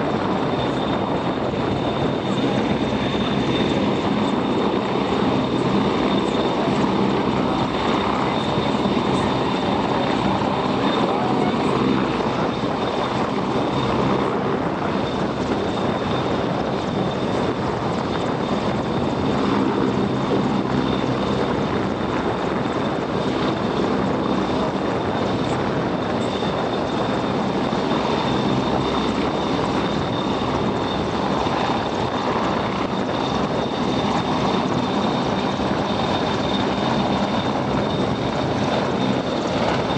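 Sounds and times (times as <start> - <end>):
constant high whine: 0.0 - 39.9
helicopter hovering: 0.0 - 39.9.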